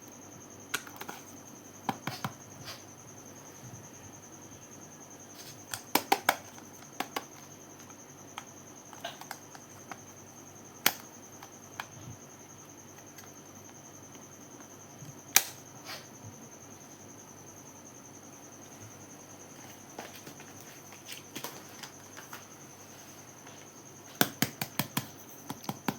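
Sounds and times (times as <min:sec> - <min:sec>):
faint high-pitched whine: 0:00.0 - 0:25.9.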